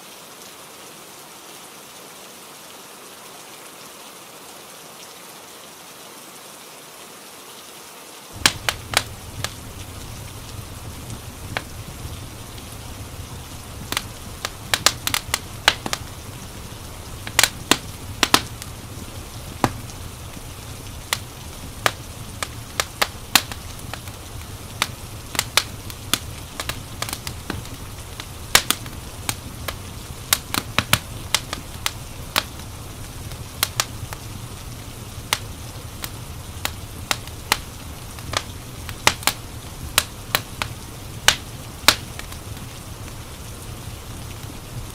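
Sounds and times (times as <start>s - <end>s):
low hiss: 0.0s - 44.9s
wood fire crackling: 8.3s - 44.9s.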